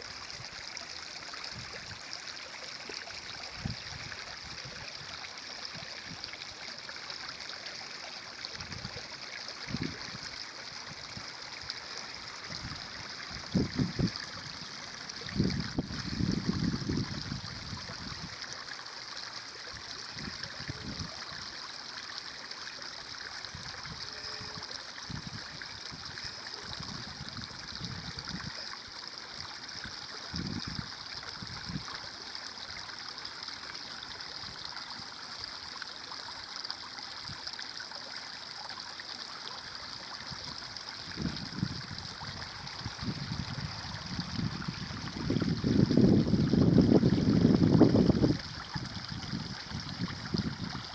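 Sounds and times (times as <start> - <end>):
stream trickling: 0.0 - 50.9
water gurgling: 0.0 - 50.9.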